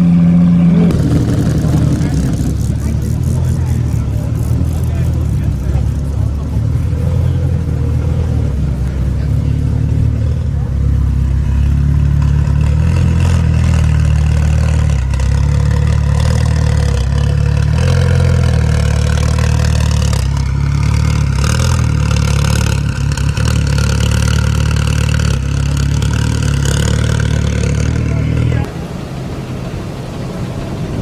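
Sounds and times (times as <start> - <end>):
sports car engine idling: 0.0 - 31.0.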